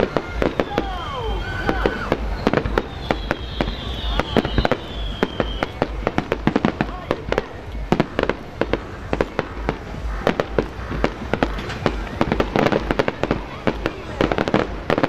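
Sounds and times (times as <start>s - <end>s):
falling firework whistle: 0.0s - 15.0s
fireworks bangs and crackles: 0.0s - 15.0s.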